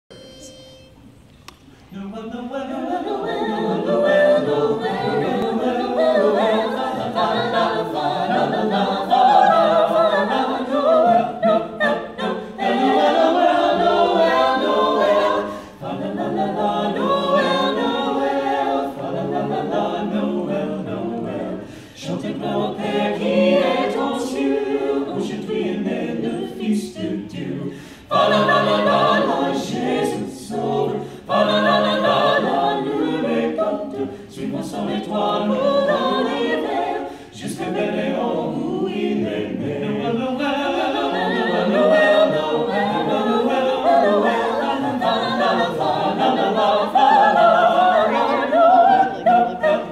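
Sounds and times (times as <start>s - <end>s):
a cappella choir singing: 0.2s - 49.9s.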